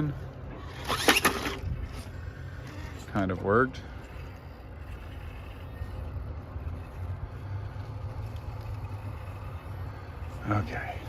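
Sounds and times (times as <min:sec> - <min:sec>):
rc car motor humming: 0:00.0 - 0:11.0.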